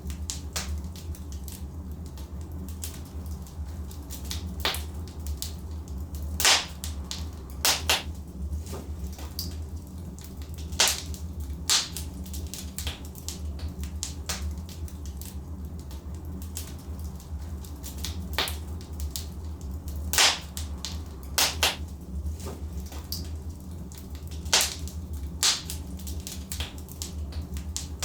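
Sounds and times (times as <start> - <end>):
fire crackling: 0.0 - 28.0
sharp pops from burning logs: 0.1 - 28.0.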